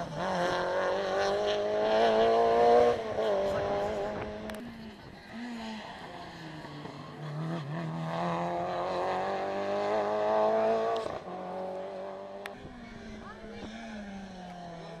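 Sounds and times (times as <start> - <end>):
rally car engine accelerating past: 0.0 - 15.0.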